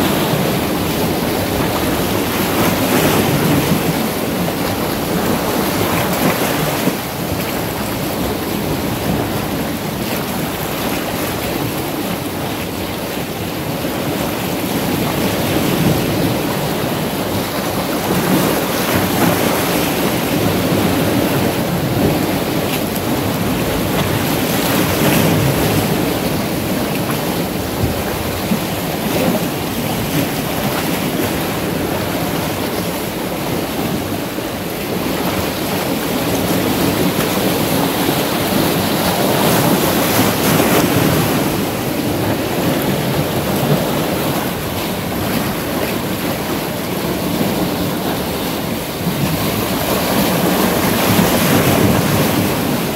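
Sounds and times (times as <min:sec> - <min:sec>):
sea waves washing on boulders: 0:00.0 - 0:52.9.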